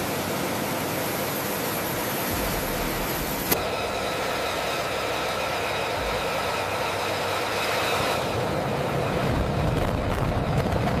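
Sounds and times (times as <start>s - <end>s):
jet engine running: 0.0s - 11.0s.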